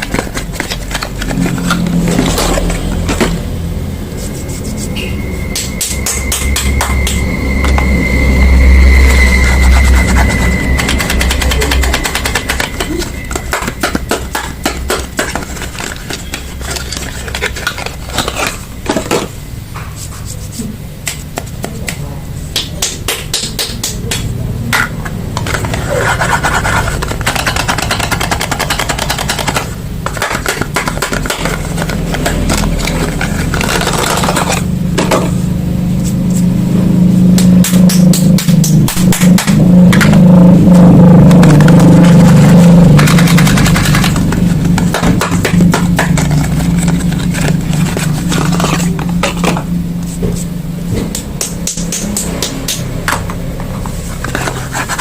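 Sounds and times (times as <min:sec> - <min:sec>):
steady low drone: 0:00.0 - 0:19.8, 0:23.8 - 0:55.0.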